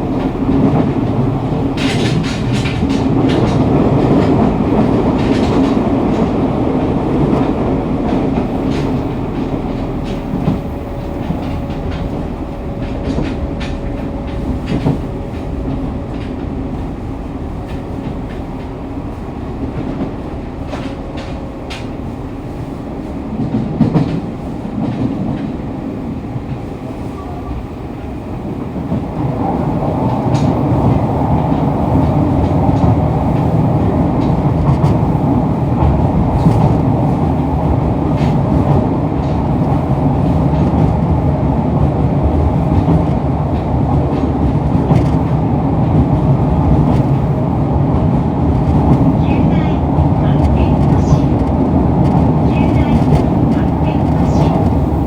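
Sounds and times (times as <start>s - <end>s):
train wheels and motors rumbling: 0.0s - 55.0s.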